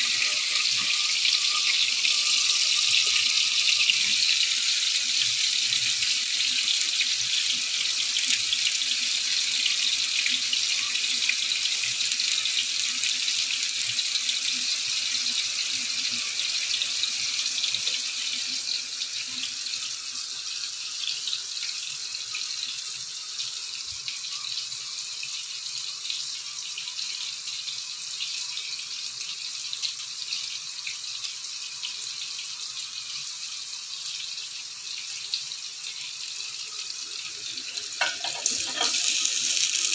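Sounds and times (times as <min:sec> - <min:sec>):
fries sizzling in oil: 0:00.0 - 0:39.9.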